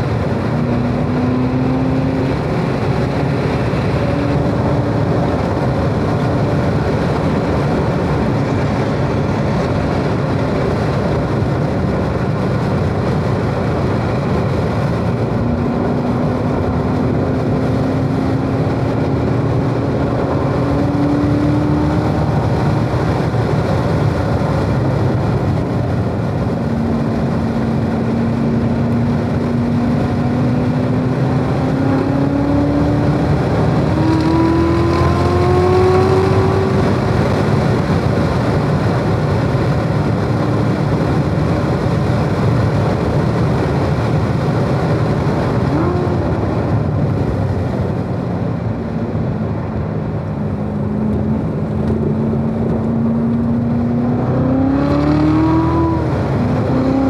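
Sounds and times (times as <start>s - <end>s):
car engine accelerating: 0.0s - 57.0s
road and tyre noise: 0.0s - 57.0s.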